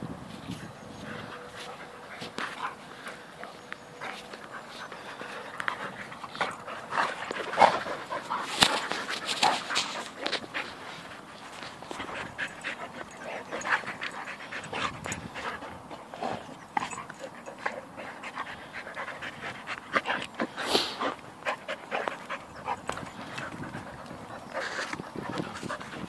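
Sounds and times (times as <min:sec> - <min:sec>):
dogs scuffling and snuffling: 0:00.2 - 0:26.0
dogs panting: 0:00.9 - 0:26.0.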